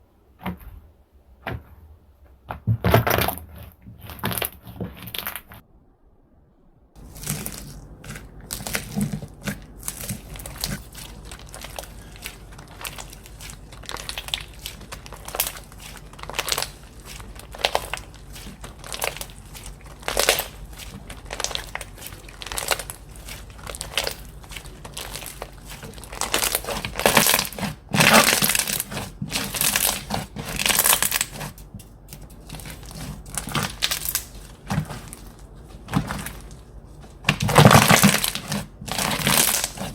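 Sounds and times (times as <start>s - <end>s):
slime crackling when squeezed: 7.0s - 31.6s, 32.4s - 39.9s.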